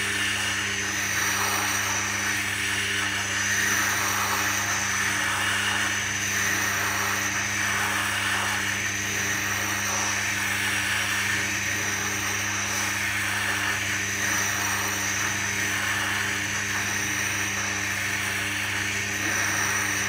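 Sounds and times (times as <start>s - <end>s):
grindstone motor hum: 0.0s - 20.0s.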